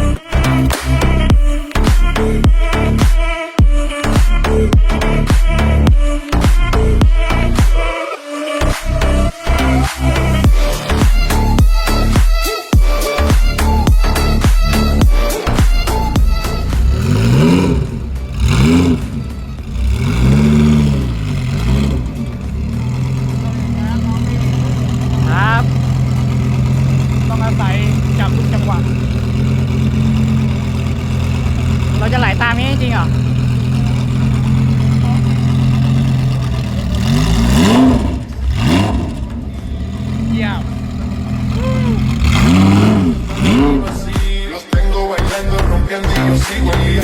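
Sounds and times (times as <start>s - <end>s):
car engine revving: 0.0s - 3.2s, 3.8s - 47.0s.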